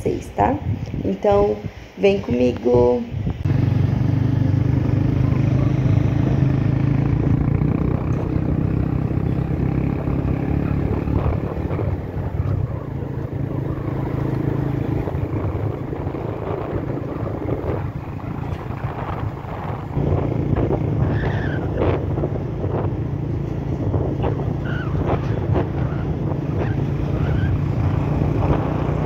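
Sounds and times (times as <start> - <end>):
motorcycle engine running: 3.4 - 29.0.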